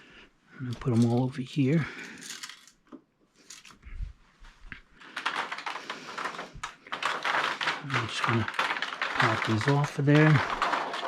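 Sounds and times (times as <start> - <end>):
small parts clicking and clattering: 0.7 - 3.9, 5.0 - 11.0.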